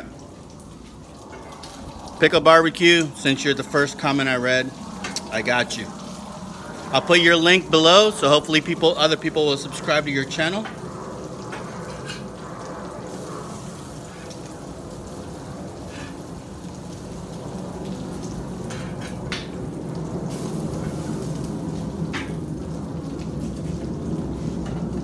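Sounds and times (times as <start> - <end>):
bacon and potatoes sizzling on griddle: 0.0 - 25.0.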